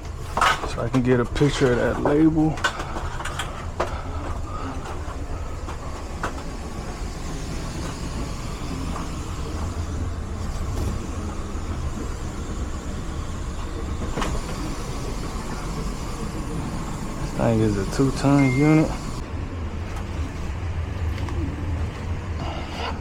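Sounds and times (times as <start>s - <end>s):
air handler blower rumble: 0.0s - 23.0s.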